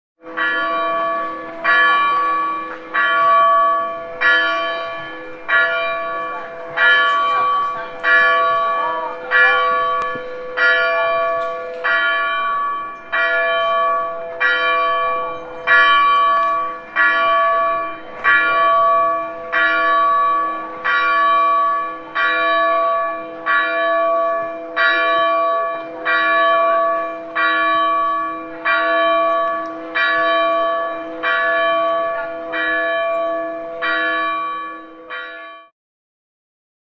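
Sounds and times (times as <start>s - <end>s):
church bells ringing: 0.2s - 35.7s.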